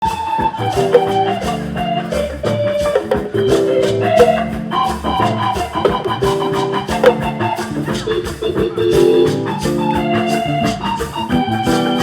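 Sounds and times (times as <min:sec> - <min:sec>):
steady drum beat: 0:00.0 - 0:12.0
bass line: 0:00.6 - 0:12.0
keyboard or organ chords: 0:00.6 - 0:12.0.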